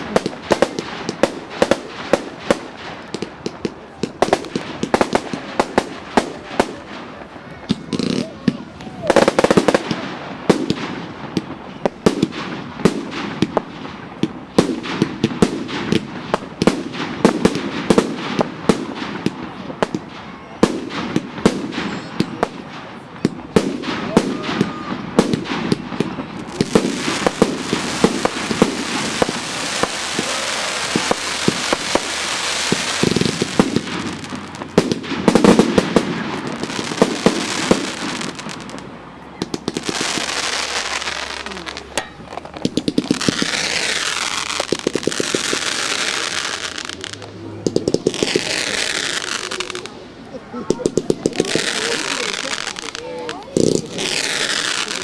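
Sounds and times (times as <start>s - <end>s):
fireworks bangs and cracks: 0.0s - 55.0s
fireworks crackling hiss: 0.0s - 55.0s.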